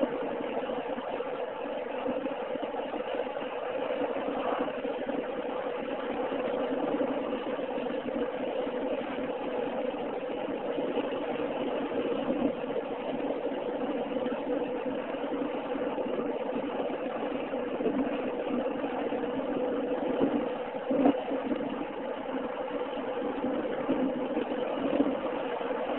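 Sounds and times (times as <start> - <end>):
car engine and tyre noise: 0.0 - 25.9.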